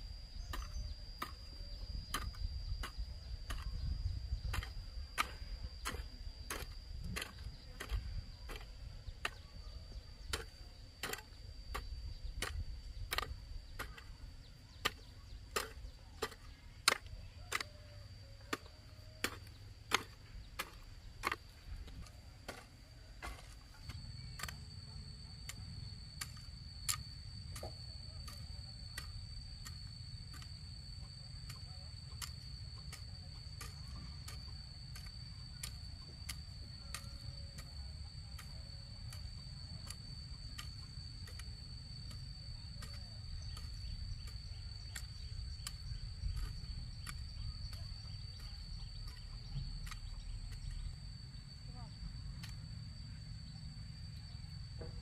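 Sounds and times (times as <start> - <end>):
hand hoe chopping dry soil: 0.3 - 51.2.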